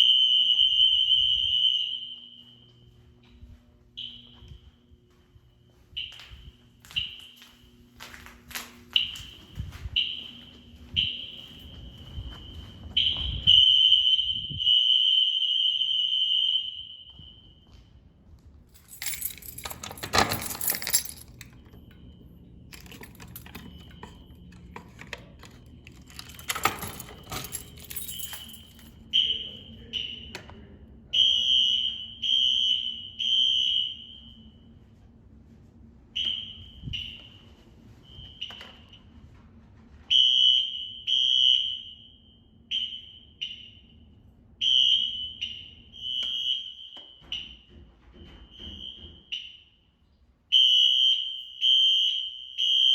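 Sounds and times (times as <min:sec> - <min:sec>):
fire alarm horn blasts: 0:00.0 - 0:08.1, 0:08.9 - 0:18.0, 0:18.8 - 0:35.0, 0:36.1 - 0:39.3, 0:40.0 - 0:52.9.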